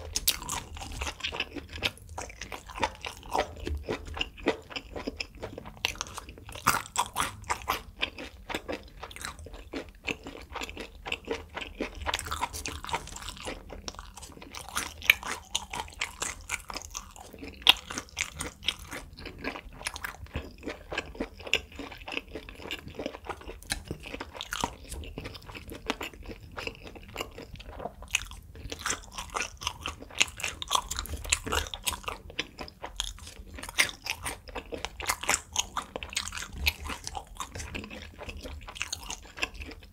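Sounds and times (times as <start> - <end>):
person chewing meat: 0.0 - 39.9.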